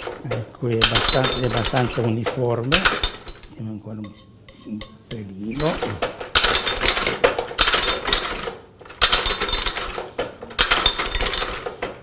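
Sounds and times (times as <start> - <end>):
printing press metallic clattering: 0.0 - 3.5, 5.4 - 12.0.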